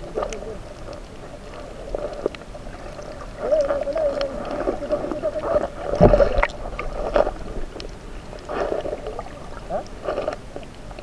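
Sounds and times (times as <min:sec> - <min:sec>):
wavering underwater hum: 0:00.0 - 0:11.0.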